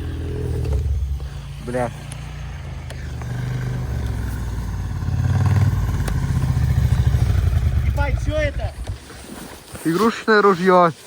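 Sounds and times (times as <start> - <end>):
snowmobile engine running: 0.0 - 9.5.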